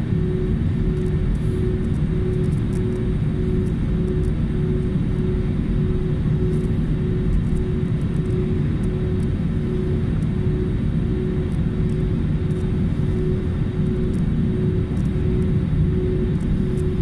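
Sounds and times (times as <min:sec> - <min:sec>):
airliner cabin low rumble: 0:00.0 - 0:17.0
pulsing hum: 0:00.0 - 0:17.0.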